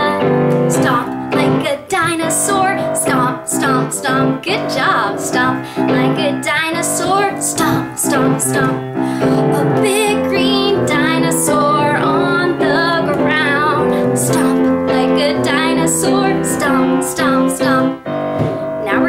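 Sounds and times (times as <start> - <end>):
instrumental backing: 0.0 - 19.0
woman singing: 0.0 - 19.0.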